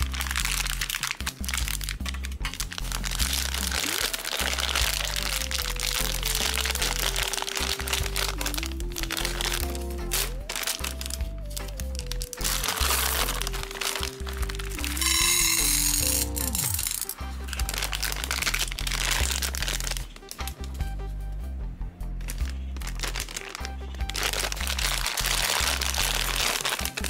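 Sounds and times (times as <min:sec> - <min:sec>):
plastic candy bag crinkling: 0:00.0 - 0:20.6, 0:22.2 - 0:27.0
background music with steady bass: 0:00.0 - 0:27.0.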